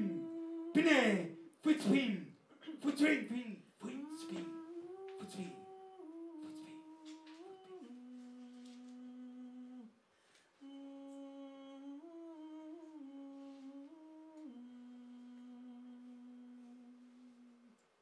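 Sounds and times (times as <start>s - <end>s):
person humming into a microphone: 0.0s - 2.2s, 3.8s - 9.9s, 10.6s - 17.8s.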